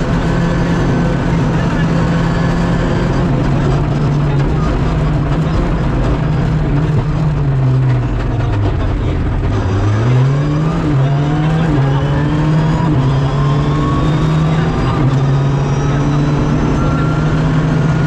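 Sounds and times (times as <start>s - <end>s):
rally car engine from inside cabin: 0.0s - 18.0s.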